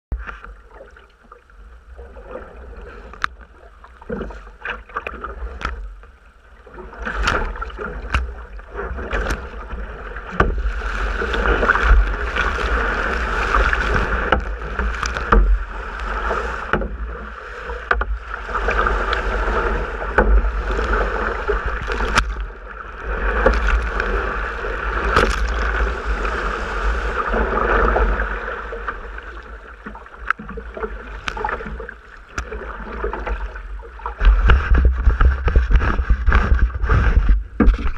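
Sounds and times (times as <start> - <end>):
paddle splashes: 0.1 - 37.9
water rushing along kayak hull: 0.1 - 37.9
wind rumble on microphone: 1.7 - 37.9.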